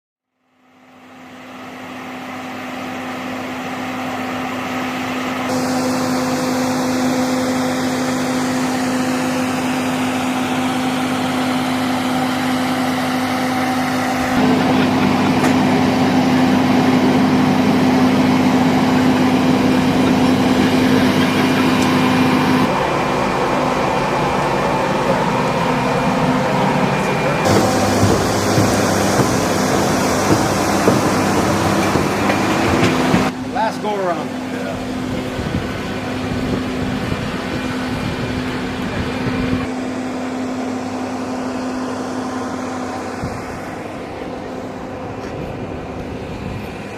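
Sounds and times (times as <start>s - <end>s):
jet engines droning: 0.5s - 46.9s.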